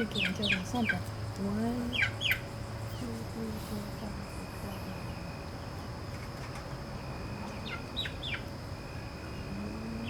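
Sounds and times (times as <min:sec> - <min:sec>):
outdoor background hum: 0:00.0 - 0:10.0.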